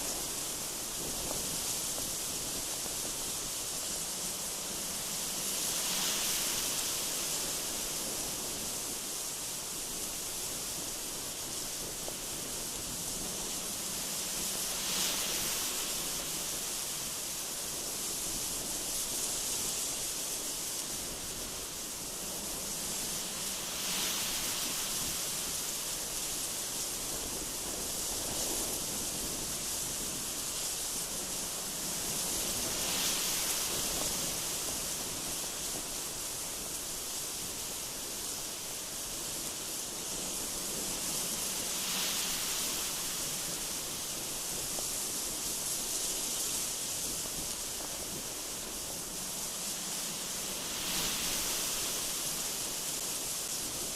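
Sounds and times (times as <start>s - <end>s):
strong wind hissing: 0.0s - 53.9s.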